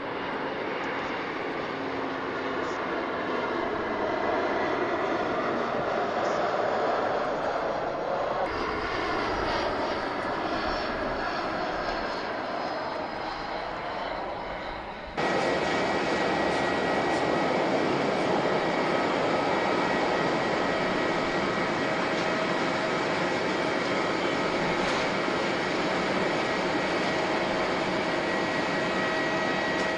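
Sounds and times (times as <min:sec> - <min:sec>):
airliner engines running: 0:00.0 - 0:29.9
engine high whine: 0:00.1 - 0:29.9.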